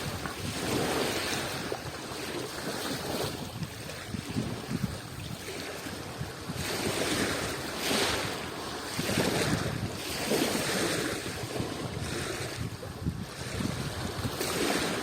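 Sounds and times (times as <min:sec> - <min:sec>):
waves washing onto shore: 0:00.0 - 0:15.0.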